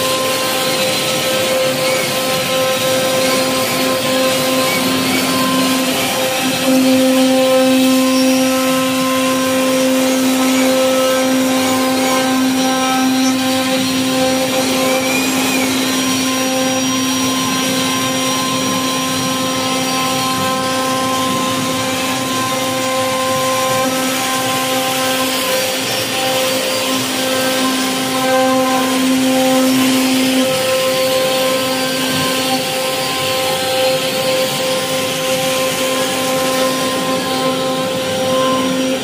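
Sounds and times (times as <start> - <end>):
router bit carving wood: 0.0 - 39.0
router spindle whine: 0.0 - 39.0.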